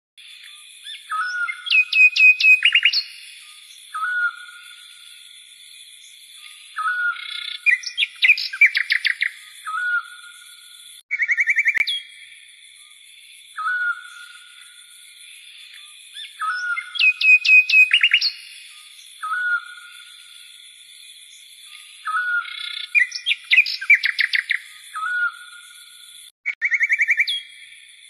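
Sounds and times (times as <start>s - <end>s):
songbirds chirping and trilling: 0.2s - 28.0s.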